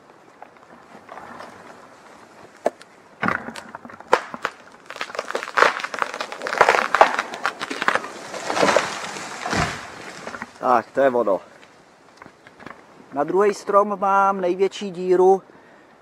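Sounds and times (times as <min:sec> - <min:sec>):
tree trunk cracking: 0:00.0 - 0:12.9
branches crackling and swishing: 0:00.0 - 0:13.0.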